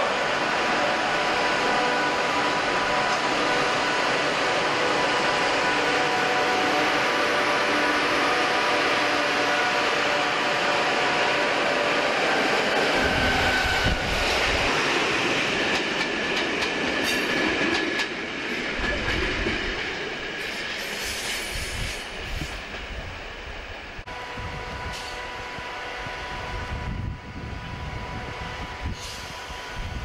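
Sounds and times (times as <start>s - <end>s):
electric locomotive roaring: 0.0s - 30.0s.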